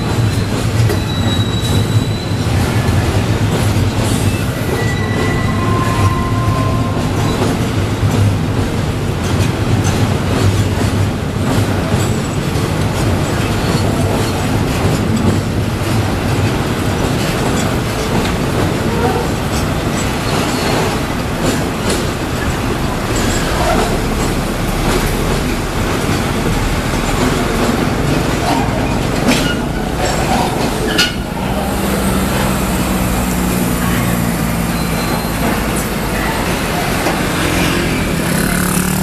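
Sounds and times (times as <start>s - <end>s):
freight train wheels on rails: 0.0s - 39.0s
truck diesel engines: 0.0s - 39.0s.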